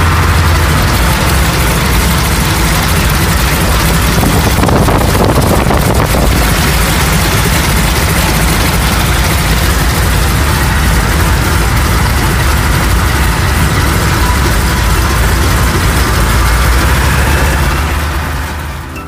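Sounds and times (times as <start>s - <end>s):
aircraft radial engines running: 0.0s - 19.0s.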